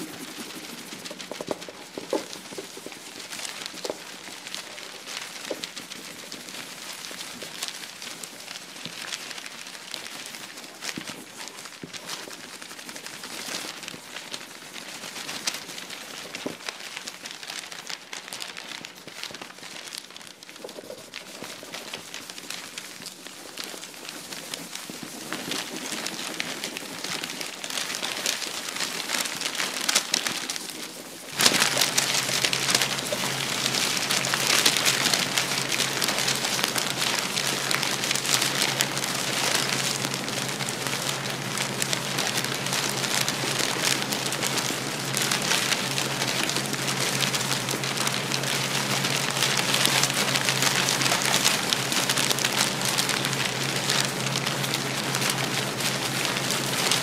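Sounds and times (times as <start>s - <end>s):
low electrical hum: 0.0s - 57.0s
television static hiss: 0.0s - 57.0s.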